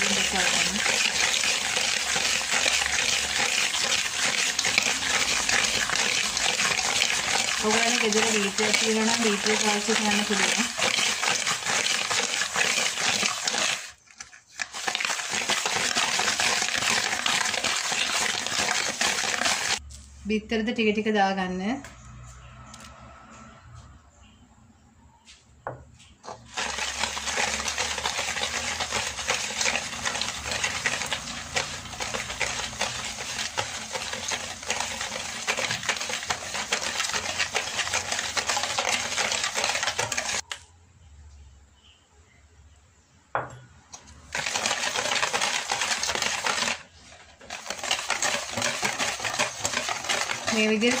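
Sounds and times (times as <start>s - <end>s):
whisk rattling in metal bowl: 0.0s - 19.8s, 26.3s - 40.5s, 44.2s - 51.0s.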